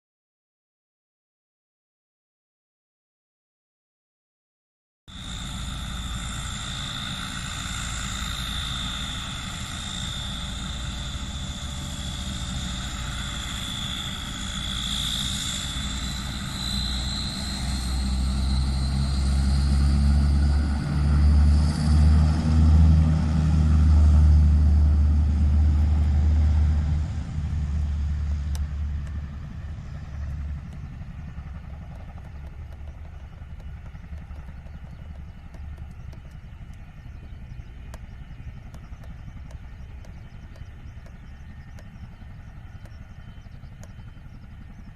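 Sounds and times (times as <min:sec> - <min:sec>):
propeller drone: 0:05.1 - 0:44.9
turbine whine: 0:05.1 - 0:44.9.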